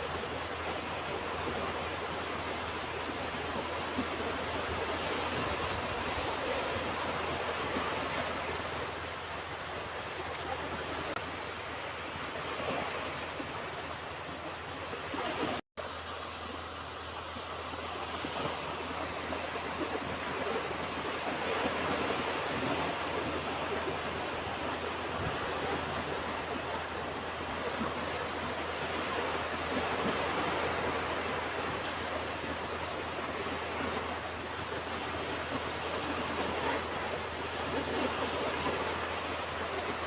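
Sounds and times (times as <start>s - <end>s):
ocean waves washing onto beach: 0.0s - 40.0s.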